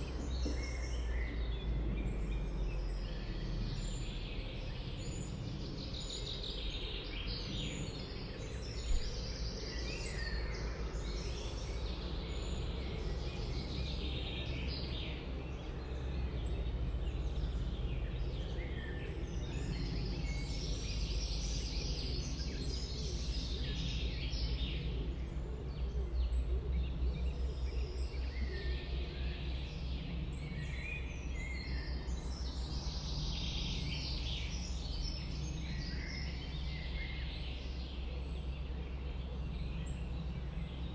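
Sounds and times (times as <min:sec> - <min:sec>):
songbirds chirping and trilling: 0:00.0 - 0:40.9
steady low rumble: 0:00.0 - 0:40.9.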